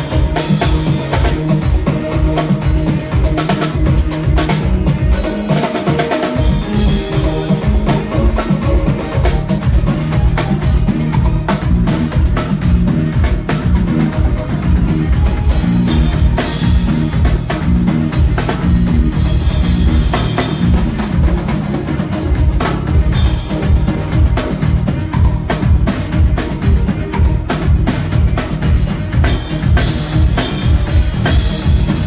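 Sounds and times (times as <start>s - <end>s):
bass drum and snare: 0.0s - 32.0s
bass line: 0.0s - 32.0s
live band instrumental groove: 0.0s - 32.0s.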